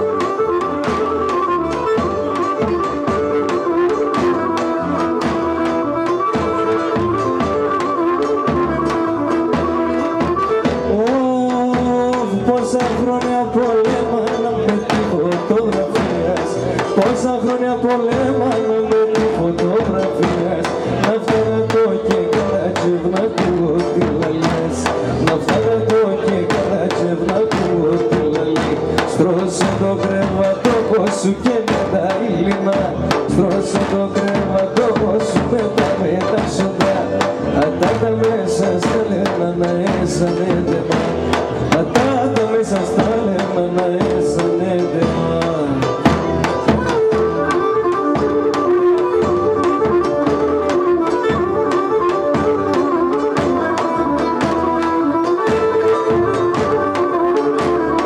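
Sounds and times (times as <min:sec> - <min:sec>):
steady drum beats: 0:00.0 - 0:58.0
wavering melody instrument: 0:00.0 - 0:58.0.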